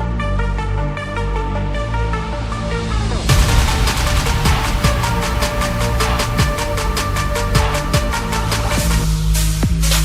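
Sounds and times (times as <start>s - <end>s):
electronic dance music: 1.2s - 10.0s.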